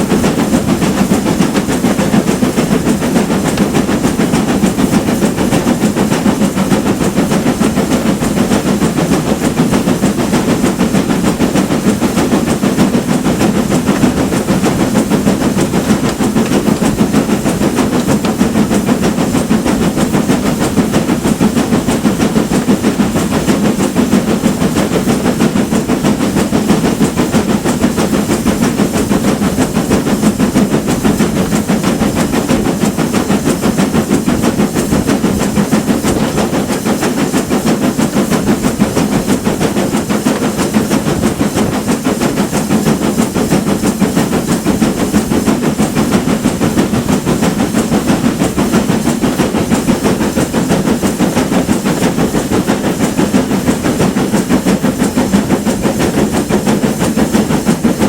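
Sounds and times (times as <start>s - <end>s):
steam train running: 0.0s - 58.0s.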